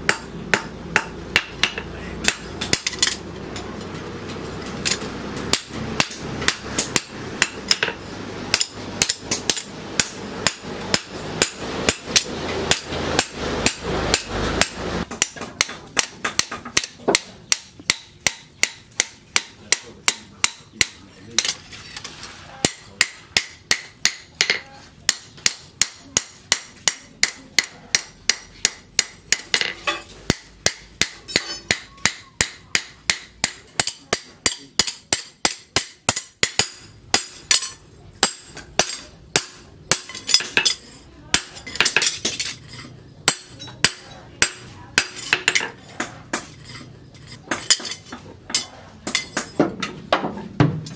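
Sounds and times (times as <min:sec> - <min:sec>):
hammer striking hot metal on anvil: 0:00.0 - 0:04.0, 0:04.6 - 0:21.6, 0:22.6 - 0:49.7.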